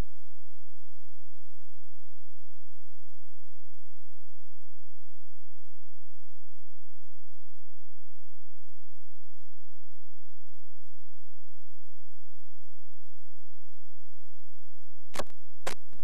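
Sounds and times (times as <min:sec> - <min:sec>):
low-pitched sine test tone: 0:00.0 - 0:16.0.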